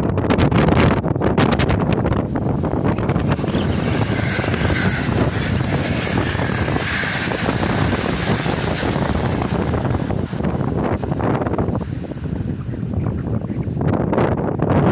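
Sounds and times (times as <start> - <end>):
passenger train passing: 0.9 - 14.7.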